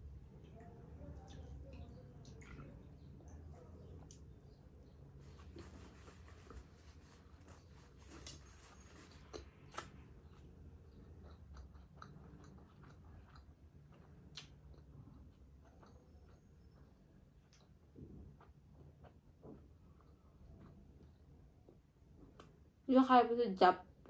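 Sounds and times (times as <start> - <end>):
faint chewing and mouth sounds: 0.0 - 22.8.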